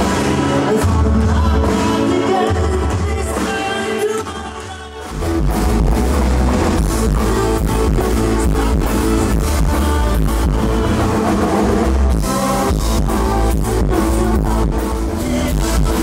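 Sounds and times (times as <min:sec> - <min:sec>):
band playing pop-rock: 0:00.0 - 0:16.0.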